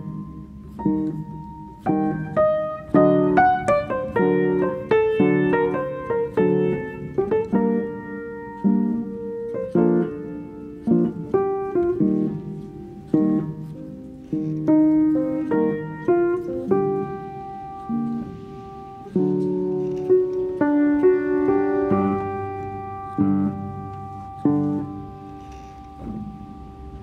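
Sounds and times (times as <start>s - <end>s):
gentle piano music: 0.0s - 27.0s.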